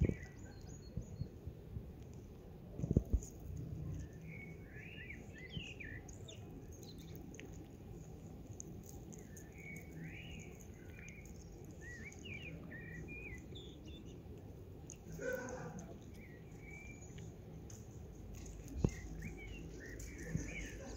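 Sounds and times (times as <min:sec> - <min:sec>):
outdoor background hum: 0:00.0 - 0:20.9
small birds chirping: 0:00.0 - 0:20.9.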